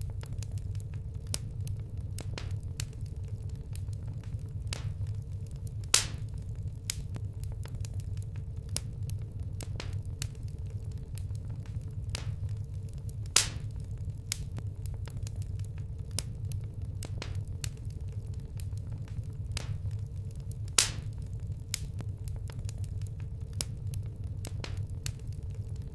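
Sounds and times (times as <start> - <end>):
campfire crackling and popping: 0.0 - 25.9
low rumble: 0.0 - 25.9.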